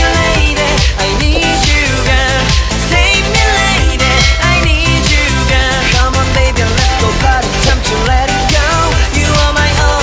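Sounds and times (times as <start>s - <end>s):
pop music with dance beat: 0.0s - 10.0s.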